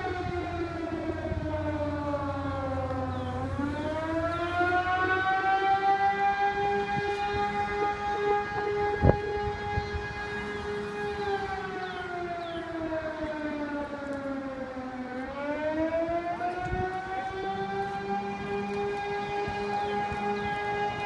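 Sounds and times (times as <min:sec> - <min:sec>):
tornado siren steady tone: 0:00.0 - 0:21.0.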